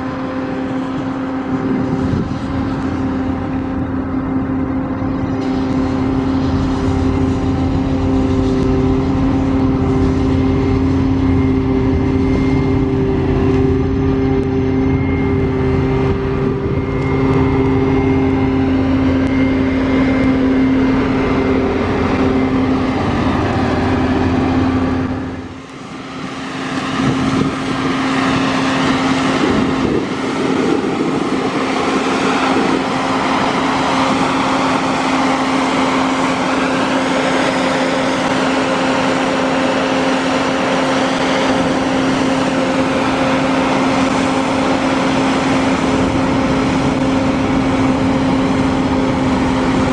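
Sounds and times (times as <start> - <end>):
combine harvester drone: 0.0 - 49.9
machine whine: 0.0 - 49.9.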